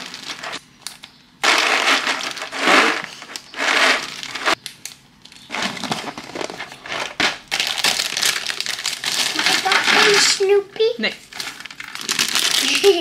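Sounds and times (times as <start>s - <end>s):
dry snacks rattling into bag: 0.0s - 0.6s, 1.4s - 4.6s, 5.3s - 10.4s, 11.3s - 13.0s
plastic bag crinkling: 0.0s - 0.6s, 1.4s - 4.6s, 5.2s - 10.6s, 11.2s - 13.0s.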